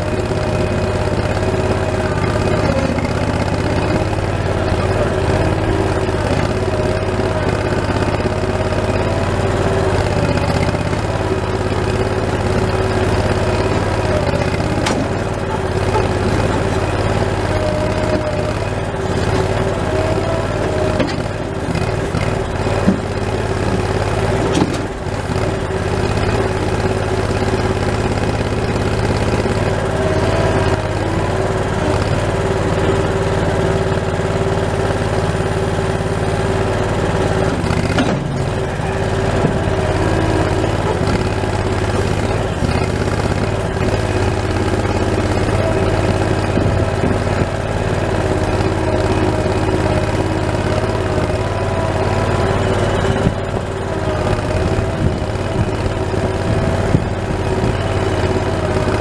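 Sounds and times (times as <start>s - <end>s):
skid steer engine running: 0.0s - 59.0s.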